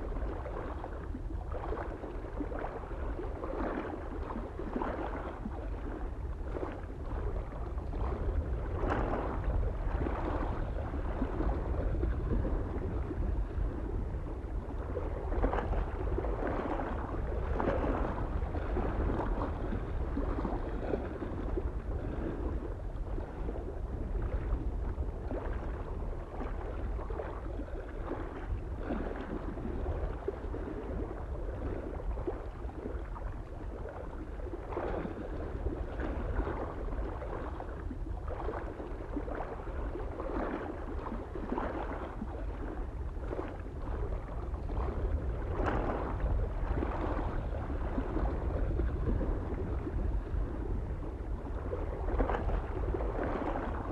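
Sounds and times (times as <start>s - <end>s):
small waves lapping on shore: 0.0s - 53.9s
wind rumble on microphone: 0.0s - 53.9s.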